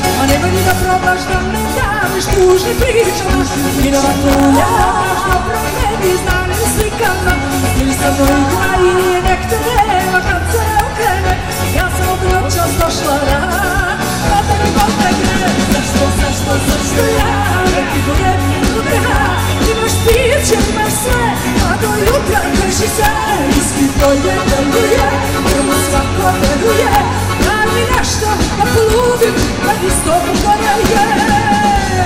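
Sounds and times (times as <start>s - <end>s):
drums: 0.0s - 32.0s
electric guitars: 0.0s - 32.0s
keyboards: 0.0s - 32.0s
woman singing into microphone: 0.0s - 32.0s.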